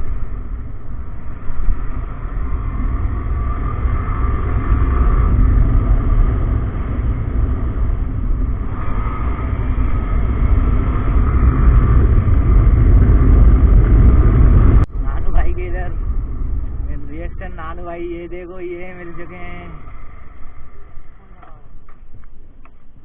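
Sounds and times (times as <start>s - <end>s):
motorcycle engine and road noise: 0.0s - 23.0s
wind rumble on microphone: 0.0s - 23.0s.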